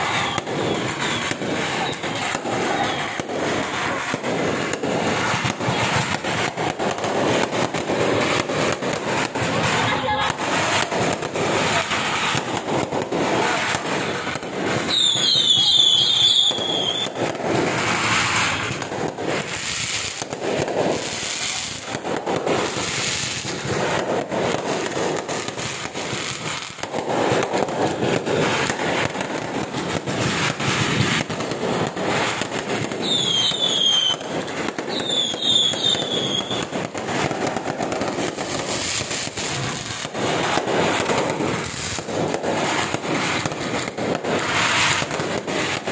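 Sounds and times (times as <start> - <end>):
falling firework whistles: 0.0 - 7.5, 13.3 - 22.0, 22.6 - 42.0, 42.6 - 45.9
fireworks bangs and crackling: 0.0 - 45.9.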